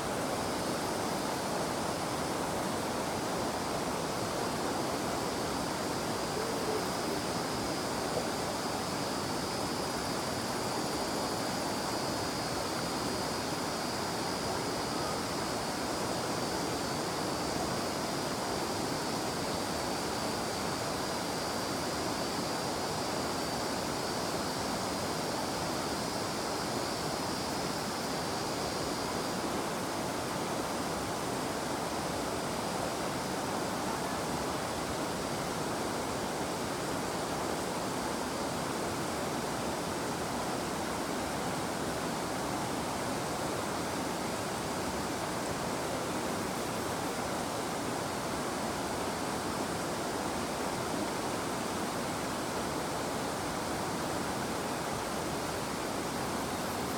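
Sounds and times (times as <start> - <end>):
faint cicada buzz: 0.0 - 56.9.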